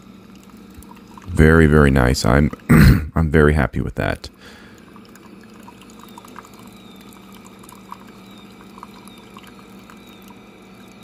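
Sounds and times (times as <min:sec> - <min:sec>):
coffee trickling into a mug: 0:00.0 - 0:02.7, 0:04.4 - 0:11.0
low steady hum: 0:00.0 - 0:11.0.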